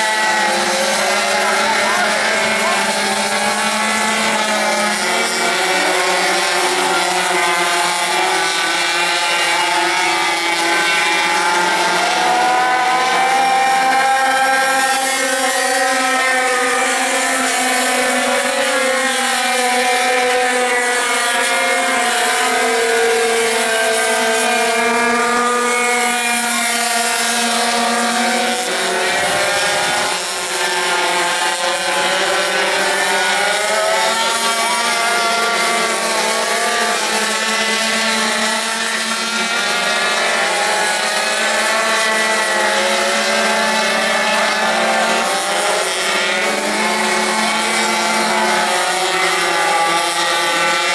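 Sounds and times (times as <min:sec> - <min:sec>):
small engines buzzing: 0:00.0 - 0:50.9.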